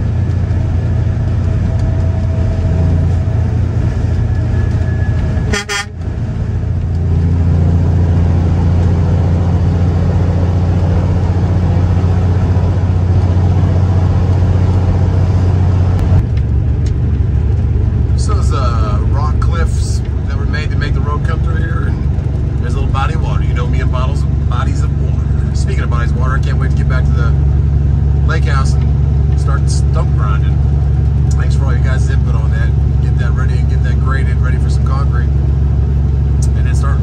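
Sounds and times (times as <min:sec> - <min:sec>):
diesel truck engine droning: 0:00.0 - 0:37.0.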